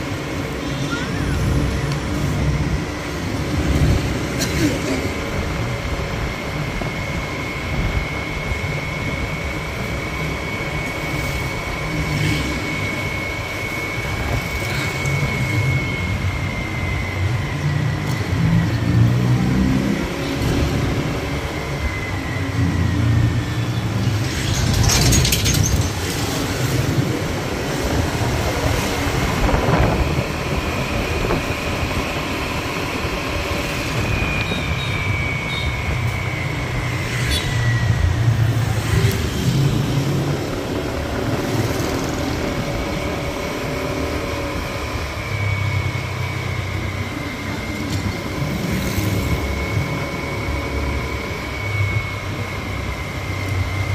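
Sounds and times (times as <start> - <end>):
motor scooter engine: 0.0 - 53.9
road noise: 0.0 - 53.9
thin high whine: 0.0 - 53.9.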